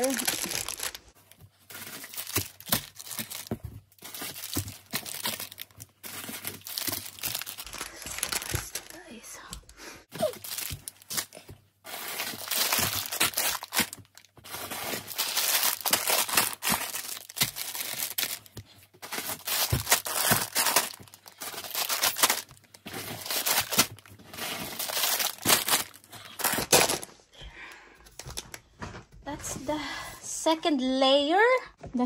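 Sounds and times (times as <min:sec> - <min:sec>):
plastic packets crinkling: 0:00.0 - 0:27.1.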